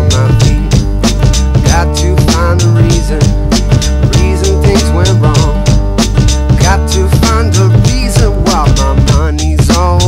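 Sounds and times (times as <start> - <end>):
song with drum beat and bass: 0.0 - 10.0.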